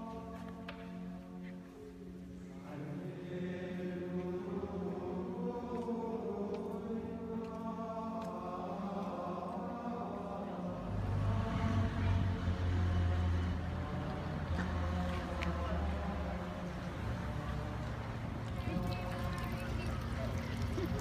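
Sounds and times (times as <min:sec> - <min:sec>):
choir chanting long notes: 0:02.5 - 0:19.8.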